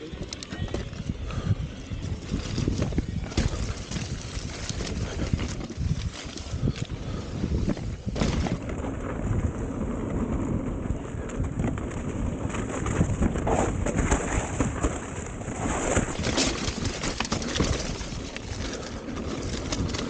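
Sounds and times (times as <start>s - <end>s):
bike chain and frame rattling: 0.0s - 20.0s
bike tyres rolling over dirt: 0.0s - 20.0s
wind buffeting microphone: 0.0s - 20.0s.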